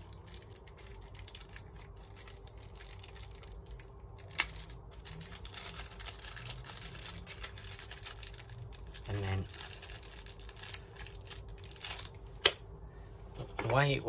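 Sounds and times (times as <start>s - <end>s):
plastic packet crinkling: 0.0s - 12.5s.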